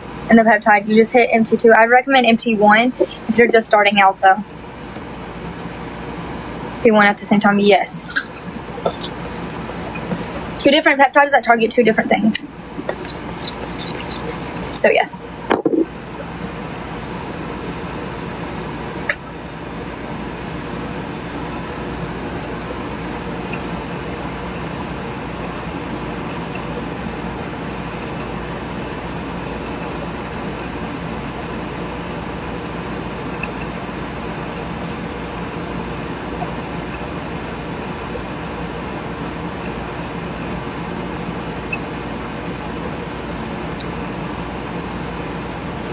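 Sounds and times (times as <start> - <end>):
machine hum and hiss: 0.0 - 45.9.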